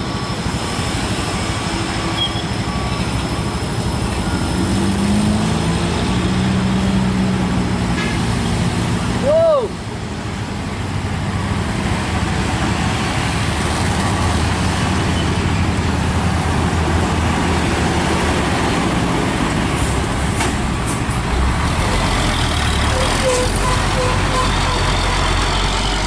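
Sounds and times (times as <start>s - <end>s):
diesel trucks passing: 0.0s - 26.0s
road noise: 0.0s - 26.0s.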